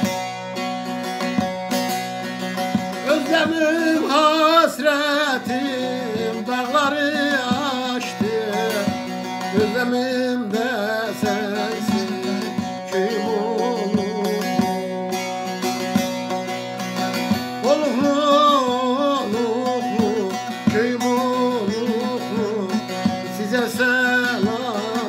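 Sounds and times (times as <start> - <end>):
long-necked lute strumming: 0.0 - 25.0
man singing folk song: 0.0 - 25.0.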